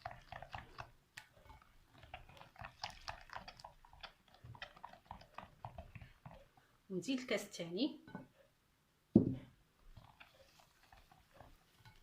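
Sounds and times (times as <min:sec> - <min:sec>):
batter stirred in a bowl: 0:00.0 - 0:08.4, 0:09.4 - 0:12.0.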